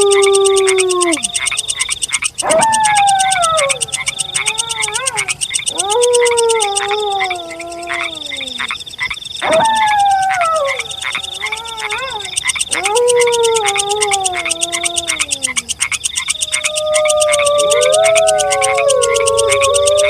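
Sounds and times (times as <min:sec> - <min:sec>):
wolves howling: 0:00.0 - 0:08.8, 0:09.4 - 0:20.0
frogs and insects chorus: 0:00.0 - 0:20.0.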